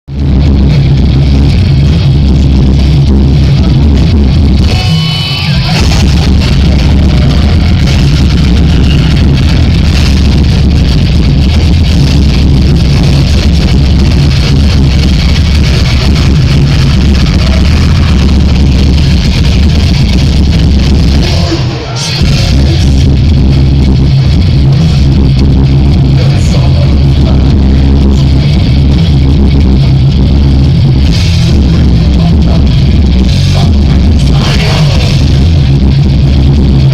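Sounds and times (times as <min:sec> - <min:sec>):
live heavy metal band: 0:00.1 - 0:36.9.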